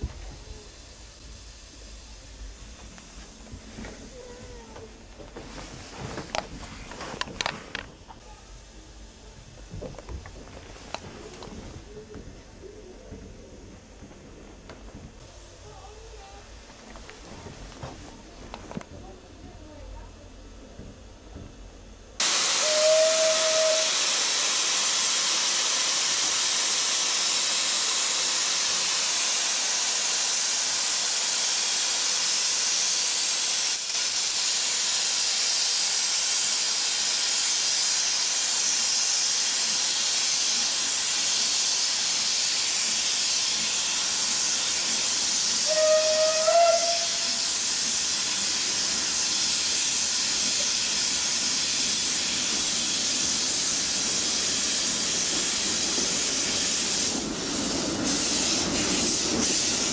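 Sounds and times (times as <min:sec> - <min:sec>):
steam locomotive hissing steam: 0:00.0 - 0:14.2, 0:22.2 - 0:59.9.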